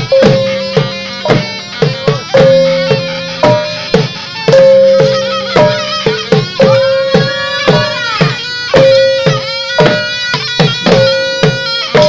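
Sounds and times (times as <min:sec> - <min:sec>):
drums struck in steady rhythm: 0:00.0 - 0:12.0
long held high tone: 0:00.0 - 0:12.0.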